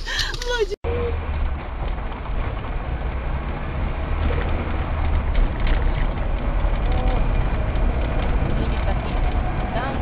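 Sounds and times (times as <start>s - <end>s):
car engine rumble: 0.0s - 10.0s
tyres on the road: 0.0s - 10.0s.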